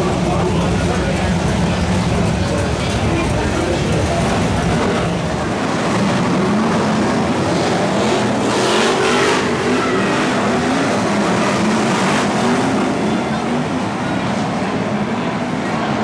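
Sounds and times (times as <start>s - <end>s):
race car engines revving: 0.0s - 16.0s.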